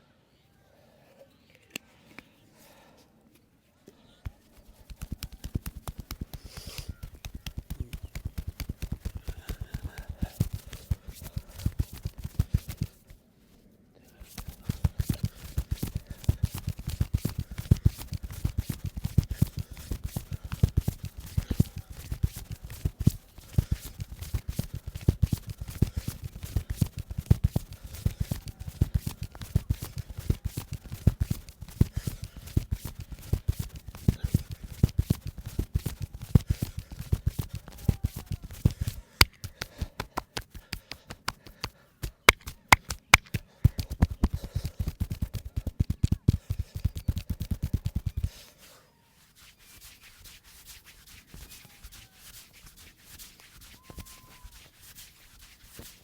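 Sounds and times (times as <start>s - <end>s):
hands slapping body in massage: 4.2s - 13.2s, 14.2s - 48.5s, 49.4s - 56.0s.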